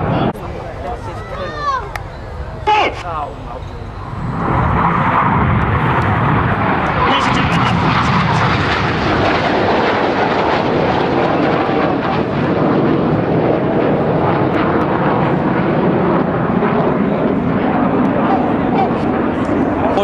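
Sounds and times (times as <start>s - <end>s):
jets flying past: 0.0s - 20.0s.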